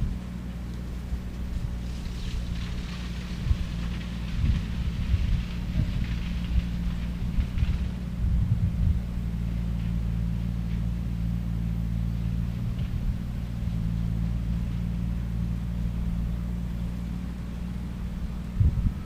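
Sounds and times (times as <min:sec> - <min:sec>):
skid steer engine drone: 0:00.0 - 0:19.0.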